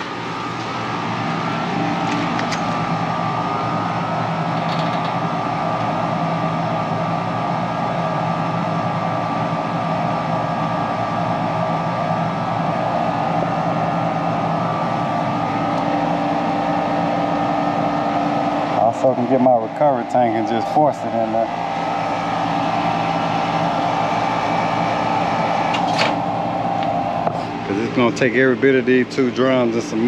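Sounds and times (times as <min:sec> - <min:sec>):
machinery humming with steady tones: 0:00.0 - 0:30.0.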